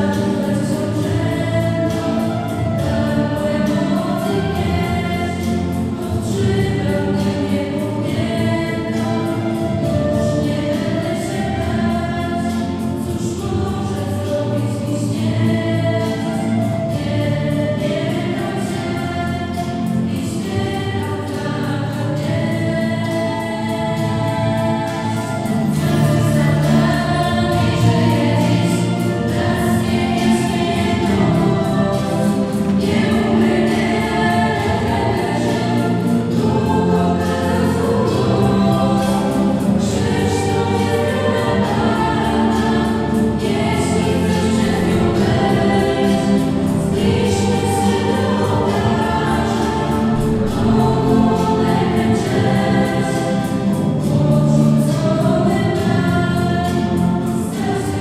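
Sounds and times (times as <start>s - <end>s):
choir singing sacred music: 0.0s - 58.0s.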